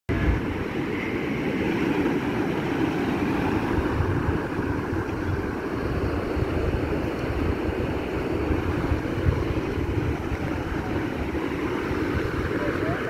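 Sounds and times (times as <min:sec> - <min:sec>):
surf breaking over rocks: 0:00.1 - 0:13.0
wind buffeting microphone: 0:00.1 - 0:13.0.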